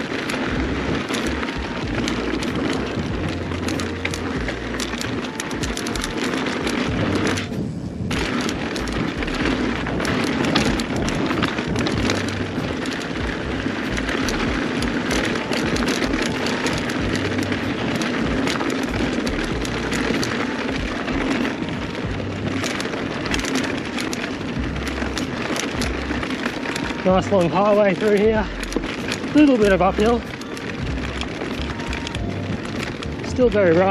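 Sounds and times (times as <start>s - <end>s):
bike rattling and knocking: 0.0s - 33.9s
tyres crunching on gravel: 0.0s - 33.9s.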